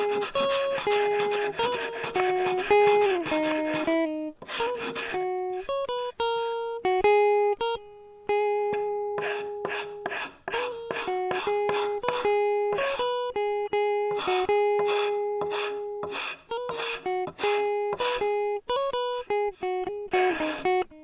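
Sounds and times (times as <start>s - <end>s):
plucked guitar melody: 0.0s - 21.0s.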